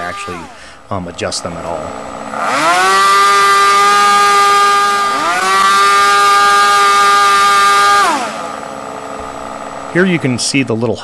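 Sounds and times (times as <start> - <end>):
model engine running at high revs: 0.0 - 11.0.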